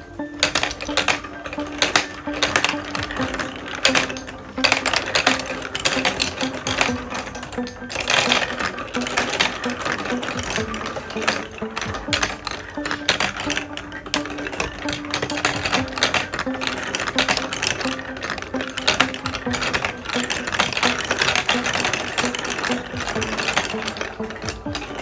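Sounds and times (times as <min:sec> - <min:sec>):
marbles clattering on plastic run: 0:00.0 - 0:25.0.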